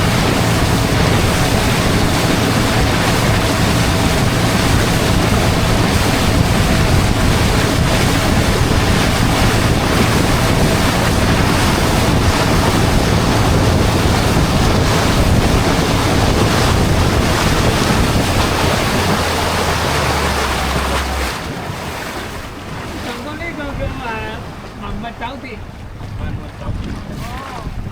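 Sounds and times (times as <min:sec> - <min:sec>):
motorboat engine drone: 0:00.0 - 0:27.9
water rushing past hull: 0:00.0 - 0:27.9
wind buffeting microphone: 0:00.0 - 0:27.9.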